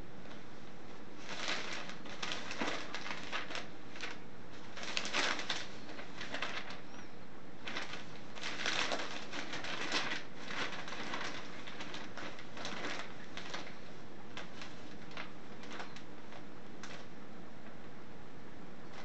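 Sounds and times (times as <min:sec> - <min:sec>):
paper crinkling and rustling: 0:00.2 - 0:07.0, 0:07.6 - 0:17.2.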